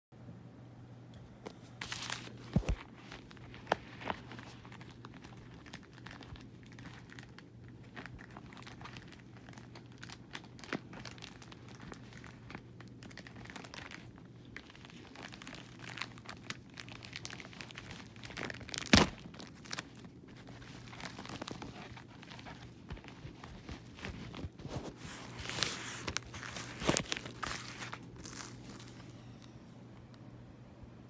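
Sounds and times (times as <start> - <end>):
steady low hum: 0.2 - 31.0
plastic wrapping crinkling and tearing: 1.8 - 29.6.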